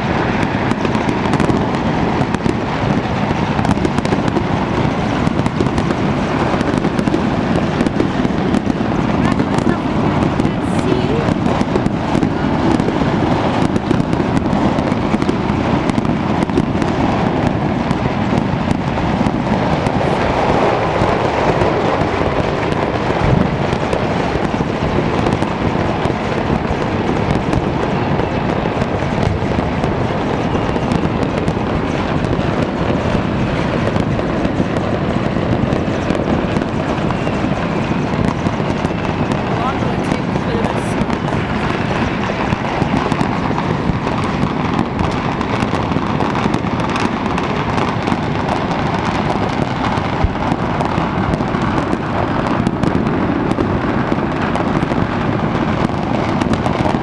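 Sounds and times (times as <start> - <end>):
fireworks and firecrackers crackling: 0.0 - 57.0.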